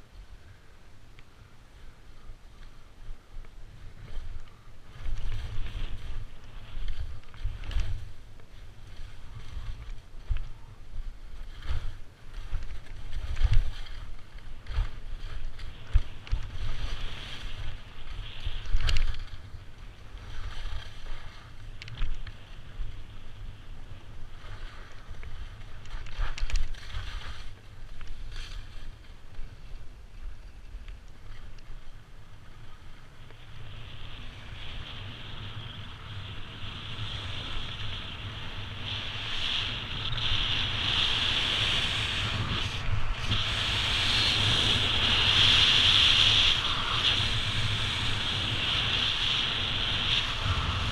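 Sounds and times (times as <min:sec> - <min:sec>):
wind rumbling on microphone: 0:00.0 - 0:50.9
skis scraping over snow: 0:02.4 - 0:50.9.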